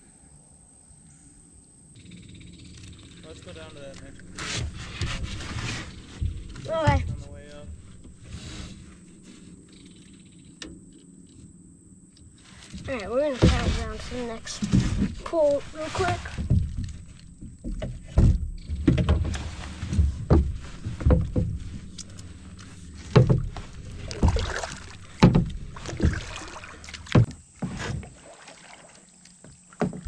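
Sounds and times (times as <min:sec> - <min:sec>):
paddle splashing in water: 0:02.8 - 0:09.6, 0:12.5 - 0:30.0.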